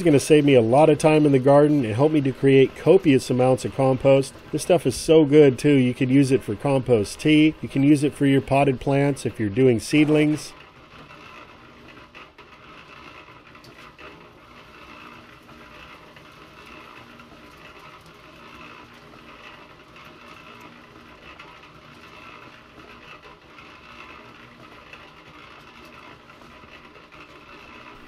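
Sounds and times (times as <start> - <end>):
electric mixer drum humming: 0.0 - 28.0.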